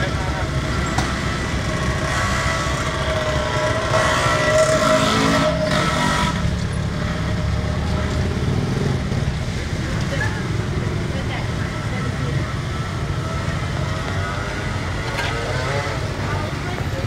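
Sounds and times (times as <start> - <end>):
low rumble of street traffic: 0.0 - 17.0.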